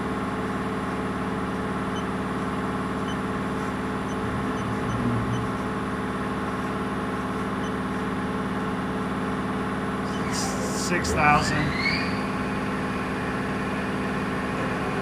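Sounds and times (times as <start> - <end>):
machining center hum: 0.0 - 15.0.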